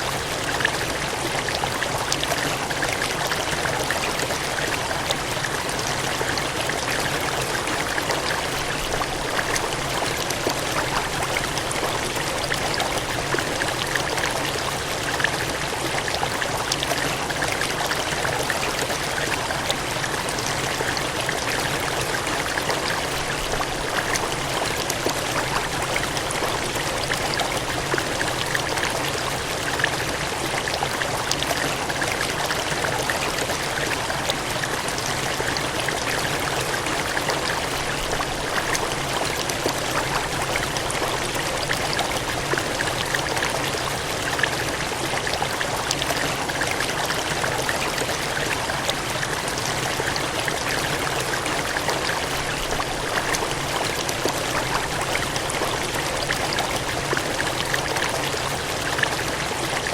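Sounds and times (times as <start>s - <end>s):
water gushing: 0.0s - 59.9s.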